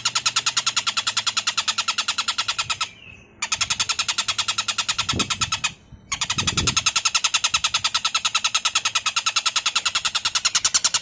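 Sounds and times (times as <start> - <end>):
bird rasping chatter: 0.0 - 11.0.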